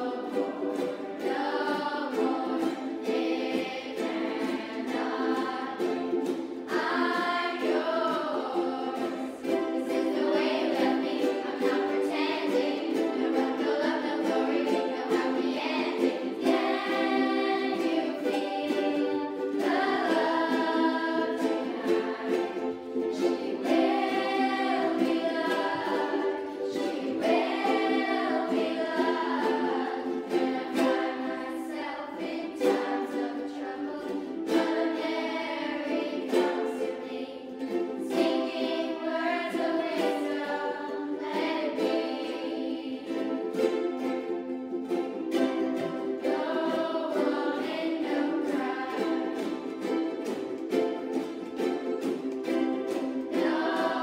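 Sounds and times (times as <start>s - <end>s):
children singing: 0.0s - 54.0s
ukuleles strumming: 0.0s - 54.0s.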